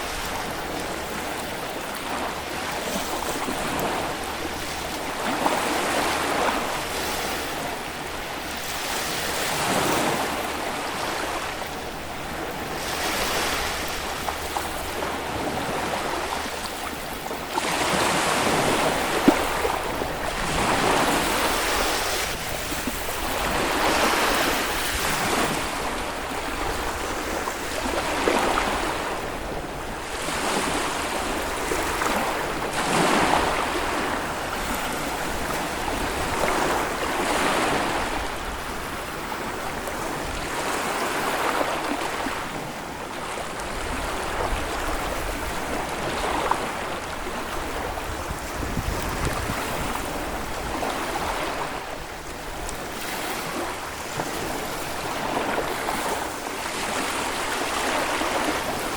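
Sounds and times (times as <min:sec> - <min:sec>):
waves breaking on a beach: 0:00.0 - 0:58.9.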